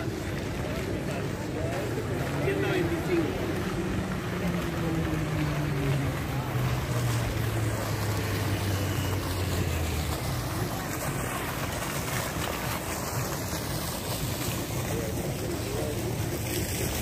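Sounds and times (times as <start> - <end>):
fountain splashing into pond: 0.0 - 17.0.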